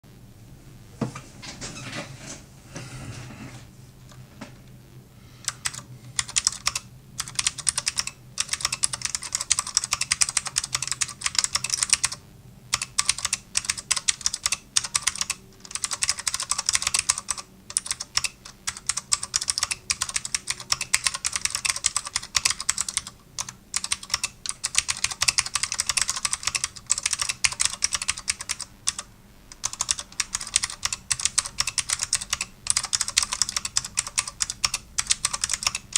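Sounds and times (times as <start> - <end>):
clicky mechanical keyboard typing: 5.4 - 35.9.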